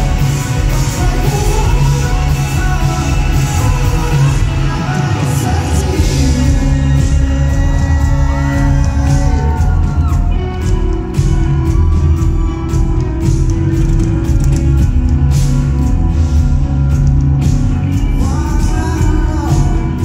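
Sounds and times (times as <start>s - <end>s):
live rock band: 0.0s - 20.0s
person singing: 0.0s - 20.0s.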